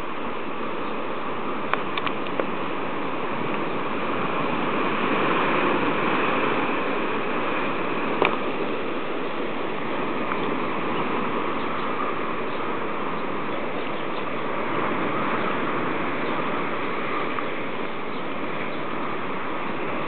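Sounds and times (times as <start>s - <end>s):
surf washing on rocky shore: 0.0s - 20.0s.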